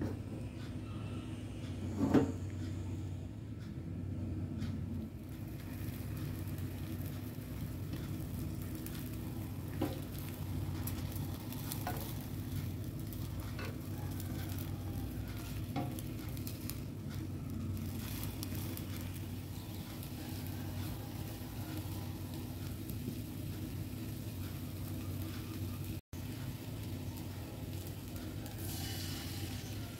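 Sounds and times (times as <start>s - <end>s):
omelette sizzling in a pan: 5.2s - 29.9s.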